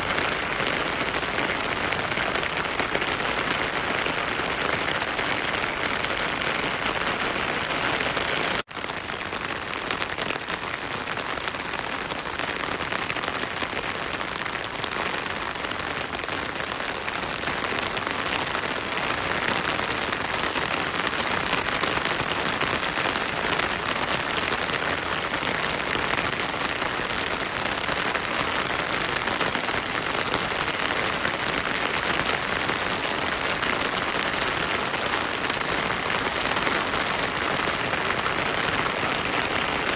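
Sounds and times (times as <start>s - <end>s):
heavy rain on a stream: 0.0s - 39.9s.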